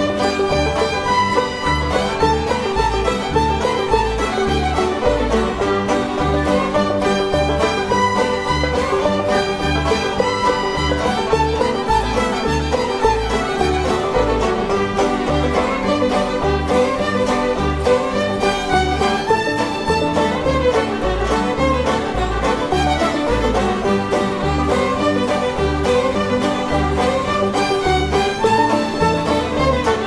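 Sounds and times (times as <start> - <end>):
upbeat bluegrass tune with fiddle: 0.0 - 30.0.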